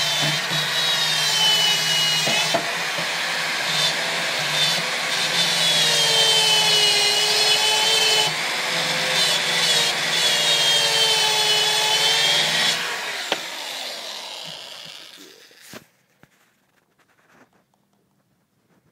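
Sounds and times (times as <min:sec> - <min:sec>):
electric drill sanding metal: 0:00.0 - 0:15.9.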